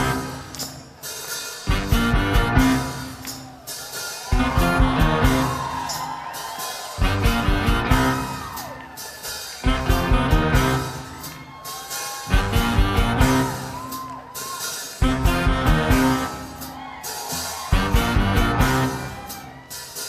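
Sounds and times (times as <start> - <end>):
rock band stop-time riff: 0.0 - 20.0.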